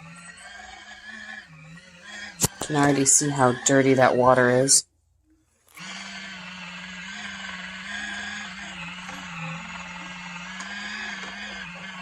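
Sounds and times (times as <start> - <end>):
washing machine motor hum: 0.0 - 4.8, 5.7 - 12.0.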